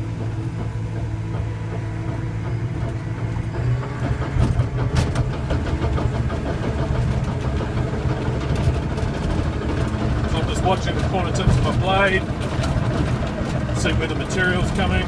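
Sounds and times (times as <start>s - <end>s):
bulldozer diesel engine running: 0.0s - 15.0s
steel tracks clattering: 0.0s - 15.0s.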